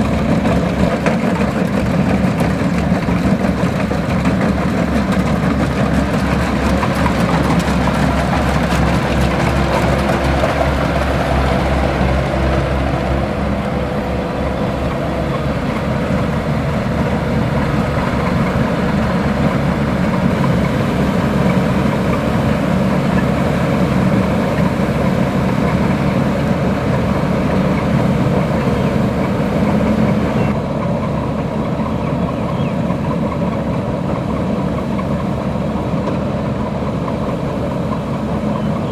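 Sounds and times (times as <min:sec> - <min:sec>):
diesel engine running under load: 0:00.0 - 0:38.9
machinery whirring: 0:00.0 - 0:38.9.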